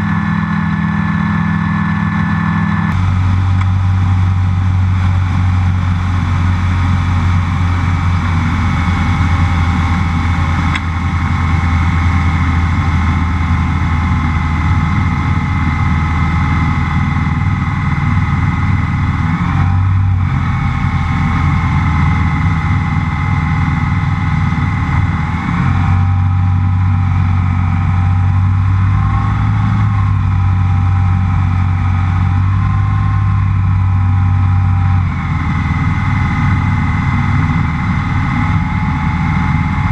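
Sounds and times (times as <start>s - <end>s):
light plane engine drone: 0.0s - 39.9s.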